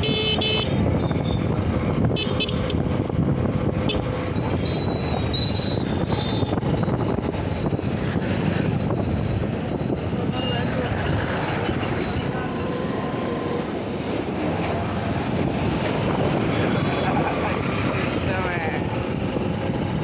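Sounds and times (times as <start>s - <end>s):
motorcycle engine and road noise: 0.0s - 20.0s
wind buffeting microphone: 0.0s - 20.0s.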